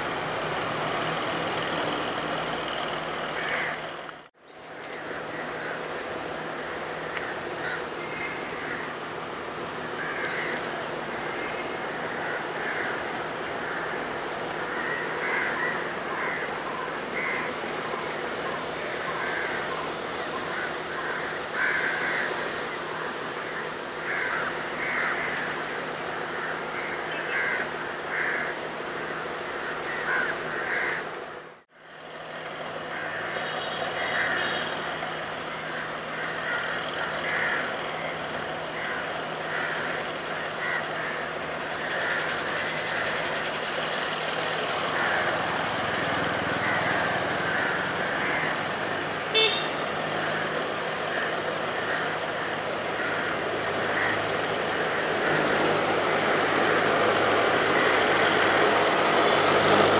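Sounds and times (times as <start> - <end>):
diesel trains rumbling: 0.0 - 59.9
crows cawing: 3.3 - 4.1, 4.8 - 9.0, 9.8 - 31.2, 32.8 - 59.9.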